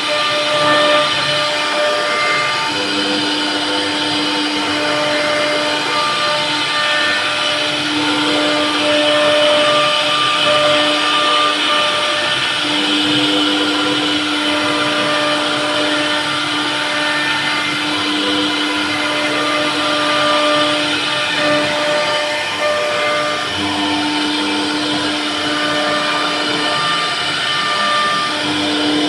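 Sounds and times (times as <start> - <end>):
router spindle whining carving wood: 0.0 - 29.0.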